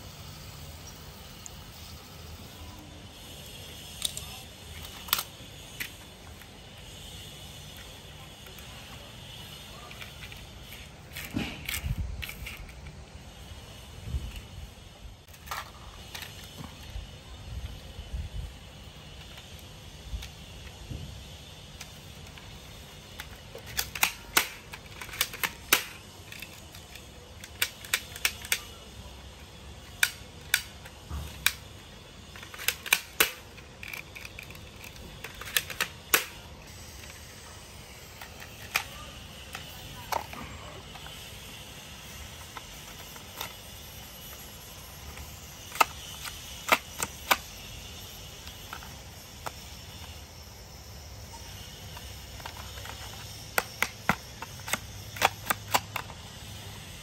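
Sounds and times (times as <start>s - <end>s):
plastic toy clicks and clacks: 1.2s - 13.0s, 15.3s - 17.0s, 18.7s - 50.2s, 51.5s - 56.6s.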